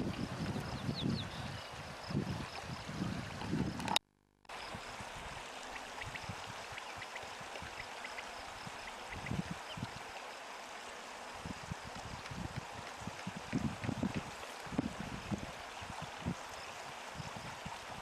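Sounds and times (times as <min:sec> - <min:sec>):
stream running water: 0:00.0 - 0:18.0.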